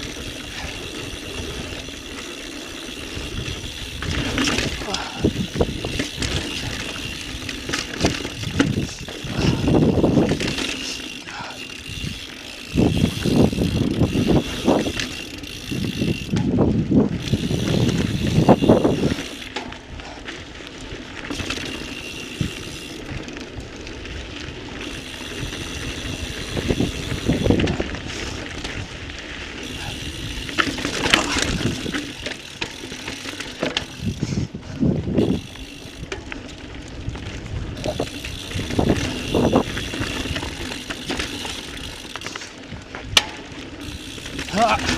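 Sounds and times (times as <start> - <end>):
bike frame rattling: 0.0 - 44.9
bike jolting on rough ground: 0.0 - 44.9
bike tyres rolling on dirt: 0.0 - 44.9.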